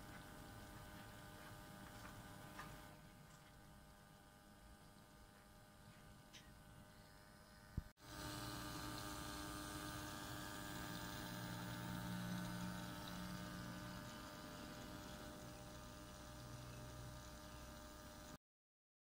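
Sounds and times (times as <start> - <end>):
electric pump humming: 0.0 - 18.4.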